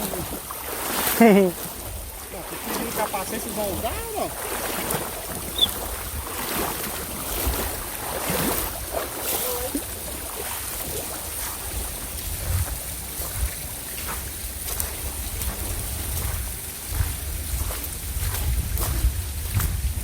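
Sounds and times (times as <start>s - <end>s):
steady rushing outdoor noise: 0.0s - 20.0s
wind rumbling on microphone: 0.0s - 20.0s.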